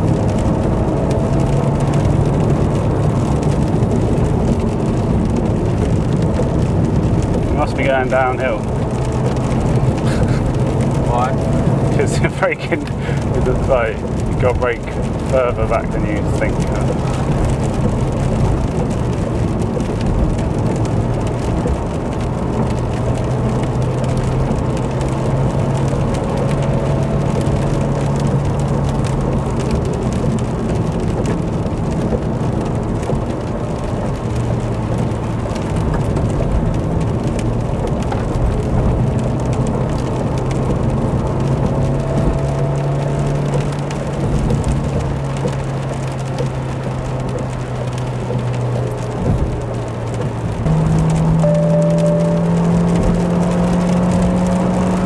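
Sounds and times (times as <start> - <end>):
car engine hum: 0.0 - 55.0
rain: 0.0 - 55.0
tyres hissing on wet road: 0.0 - 55.0.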